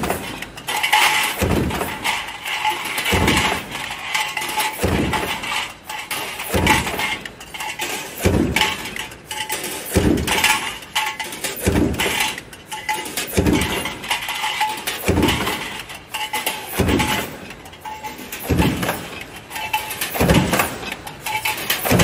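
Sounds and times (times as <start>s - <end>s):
metal parts clinking: 0.0s - 22.0s
stamping press strokes: 0.0s - 22.0s.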